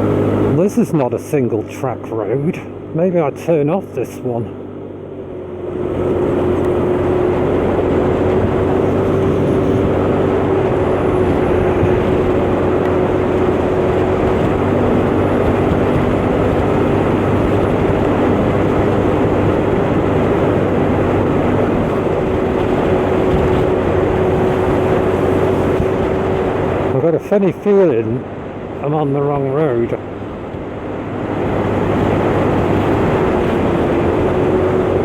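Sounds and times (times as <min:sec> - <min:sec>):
scooter engine humming: 0:00.0 - 0:35.0
wind on microphone: 0:05.6 - 0:28.8, 0:29.6 - 0:35.0.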